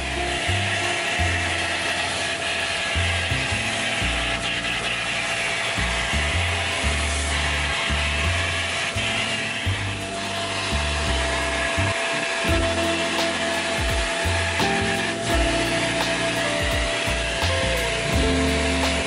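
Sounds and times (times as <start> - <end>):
background music: 0.0 - 19.0
stepping bass line: 0.0 - 19.0
vacuum cleaner running: 0.4 - 19.0.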